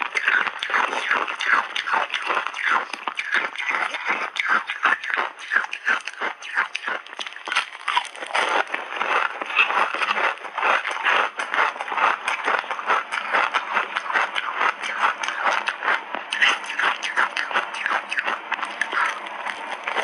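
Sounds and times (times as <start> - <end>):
ice crunched between teeth: 0.0 - 20.0.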